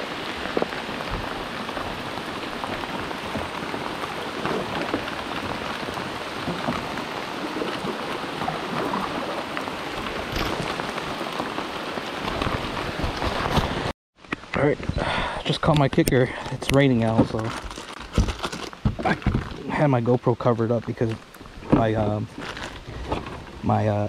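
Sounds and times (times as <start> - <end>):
steady rain patter: 0.0 - 24.0.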